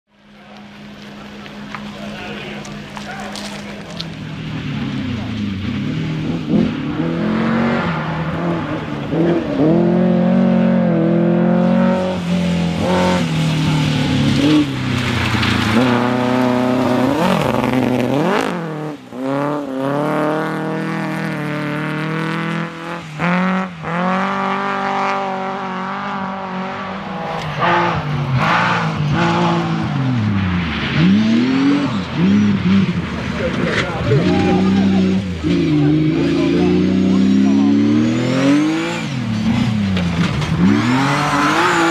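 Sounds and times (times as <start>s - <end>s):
rally car engines revving: 0.2s - 41.9s
car passing by: 1.7s - 41.9s.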